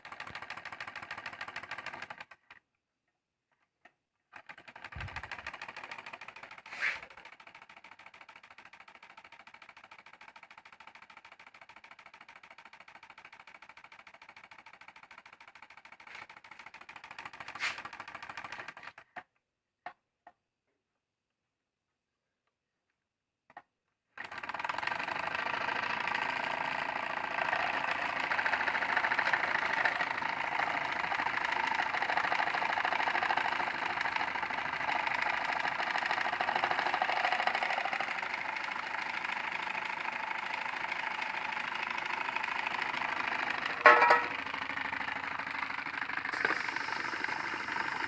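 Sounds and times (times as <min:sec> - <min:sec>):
small engine mechanical clatter: 0:00.0 - 0:02.7, 0:03.5 - 0:20.4, 0:23.5 - 0:48.0.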